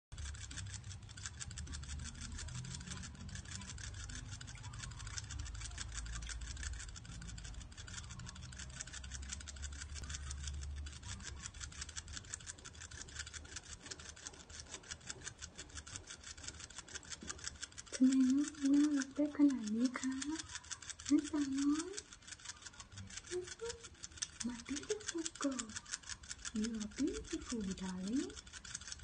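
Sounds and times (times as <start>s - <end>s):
rat licking water: 0.1s - 29.0s.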